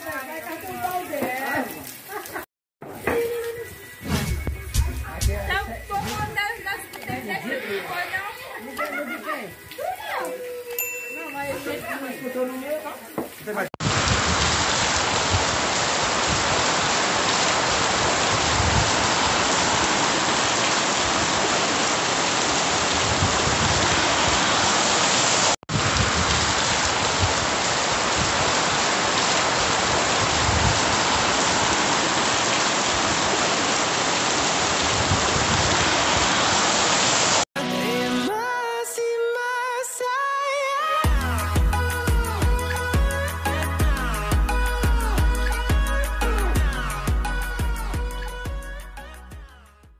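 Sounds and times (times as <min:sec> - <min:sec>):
heavy rain pouring: 0:00.0 - 0:37.5, 0:41.0 - 0:48.7.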